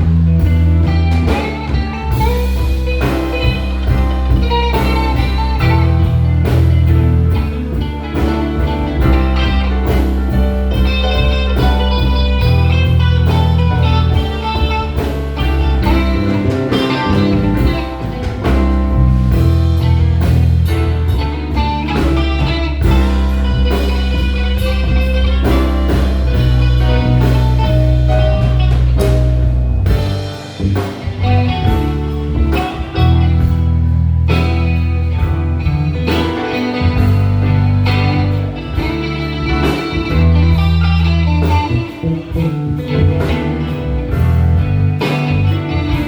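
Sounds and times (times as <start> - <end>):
drum kit: 0.0 - 46.0
electric bass: 0.0 - 46.0
guitar: 0.0 - 46.0
keyboards: 0.0 - 46.0.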